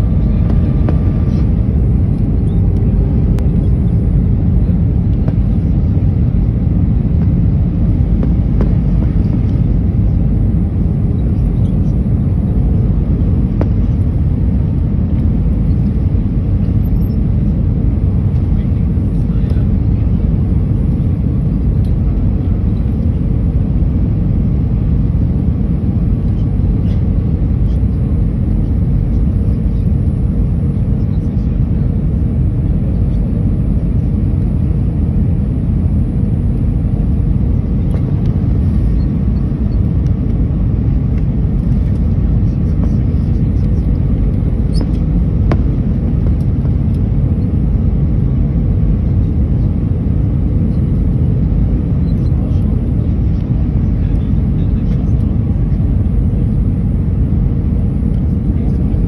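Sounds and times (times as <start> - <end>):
faint steady hum: 0.0 - 59.0
jet engines rumbling in cabin: 0.0 - 59.0.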